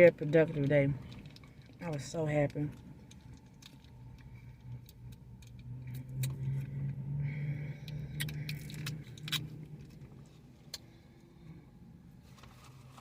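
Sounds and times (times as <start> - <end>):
light clicks and rattles: 0.0 - 10.9
car passing: 0.9 - 12.2.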